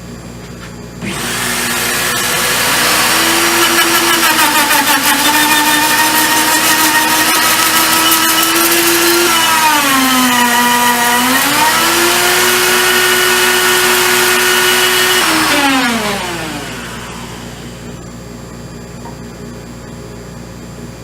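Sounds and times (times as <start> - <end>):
power tool motor running: 1.0 - 18.0.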